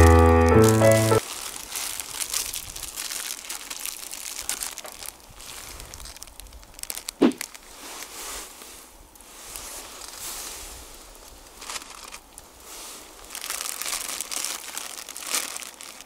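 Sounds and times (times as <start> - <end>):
plastic packaging crinkling: 0.0 - 8.2, 9.5 - 10.2, 11.0 - 16.0.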